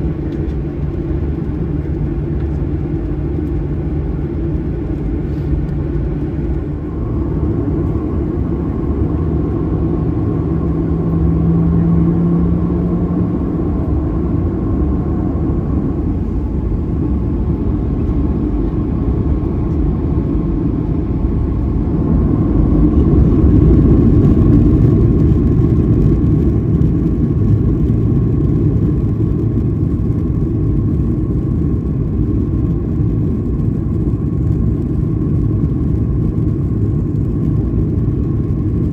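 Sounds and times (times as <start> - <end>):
jet engines whining over rumble: 0.0 - 38.9.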